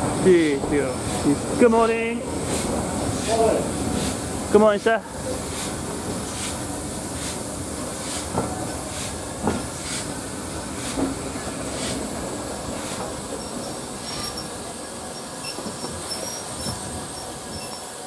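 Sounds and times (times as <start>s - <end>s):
train wheels clicking over rail joints: 0.0s - 18.0s.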